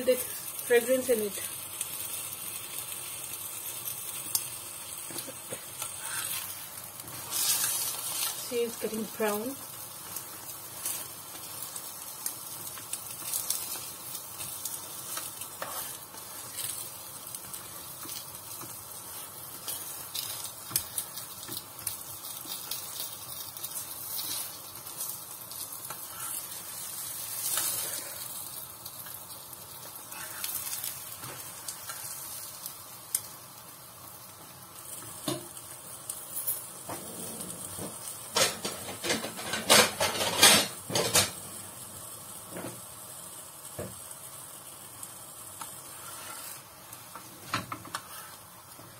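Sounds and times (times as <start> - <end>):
meat sizzling on a griddle: 0.0 - 48.9.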